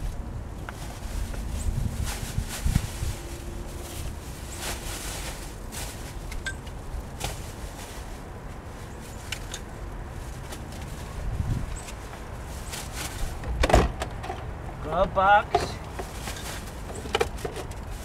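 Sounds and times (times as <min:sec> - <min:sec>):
papers and bags rustling: 0:00.0 - 0:13.6, 0:15.3 - 0:18.0.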